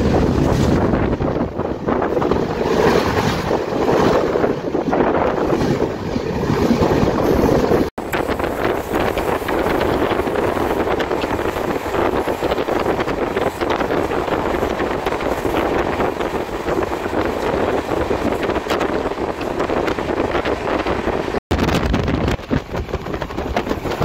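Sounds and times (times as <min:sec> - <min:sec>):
freight train passing: 0:00.0 - 0:21.4
train wheels clattering on rails: 0:00.0 - 0:24.0
wind rushing over microphone: 0:00.0 - 0:24.0.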